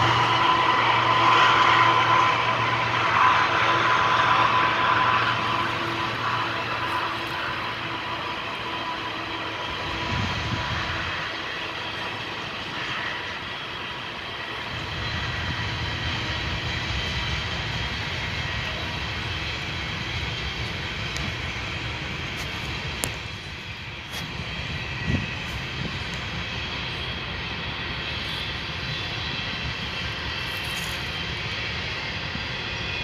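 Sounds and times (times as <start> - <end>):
train rumbling past: 0.0 - 33.0.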